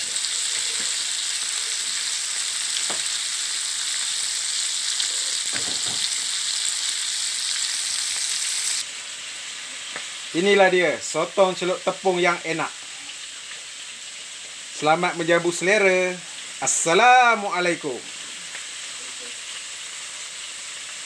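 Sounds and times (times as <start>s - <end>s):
oil sizzling in a wok: 0.0s - 21.0s.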